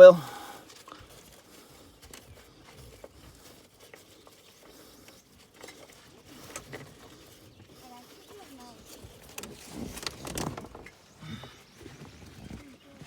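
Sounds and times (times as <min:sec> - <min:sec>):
soft rustling: 0:00.6 - 0:13.0.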